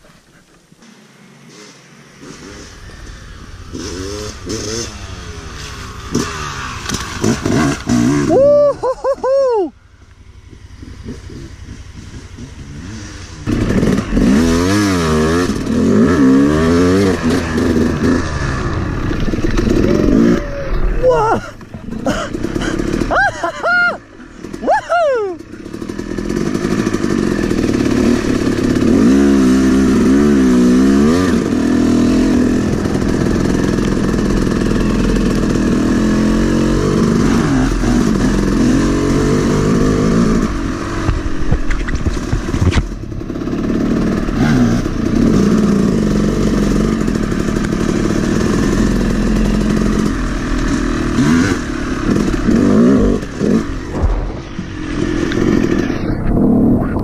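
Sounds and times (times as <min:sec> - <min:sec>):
two-stroke engine revving: 0:00.8 - 0:57.0.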